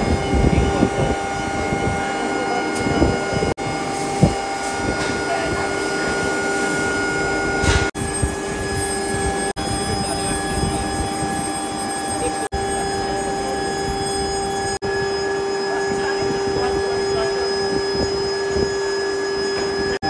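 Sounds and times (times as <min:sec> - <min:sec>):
workshop machinery droning: 0:00.0 - 0:20.0.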